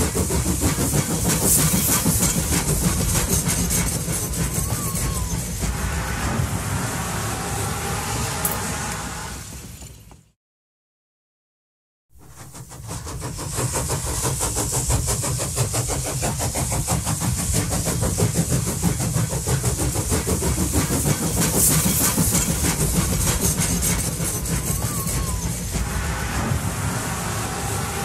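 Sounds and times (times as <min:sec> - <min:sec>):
steady steam hiss: 0:00.0 - 0:09.8, 0:12.2 - 0:28.0
steam locomotive exhaust beats: 0:00.0 - 0:10.4, 0:12.1 - 0:28.0.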